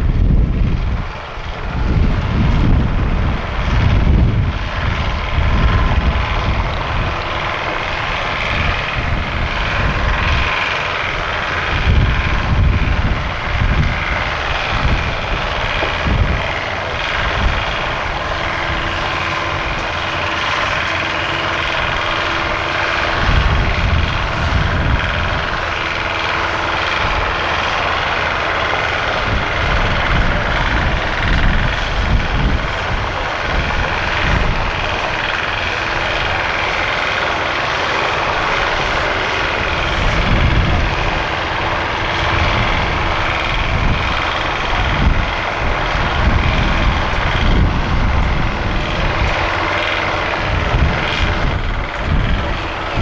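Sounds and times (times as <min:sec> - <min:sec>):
large engine running: 0:00.0 - 0:53.0
wind buffeting microphone: 0:00.0 - 0:53.0.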